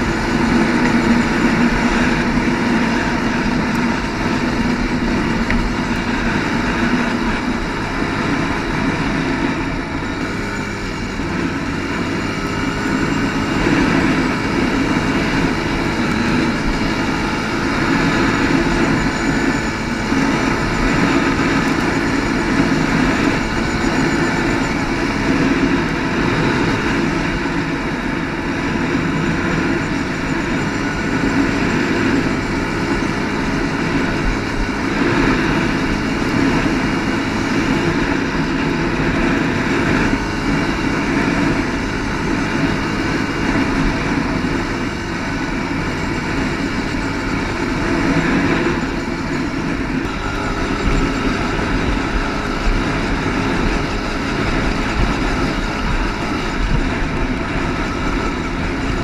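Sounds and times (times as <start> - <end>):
quad engine droning: 0.0 - 59.0.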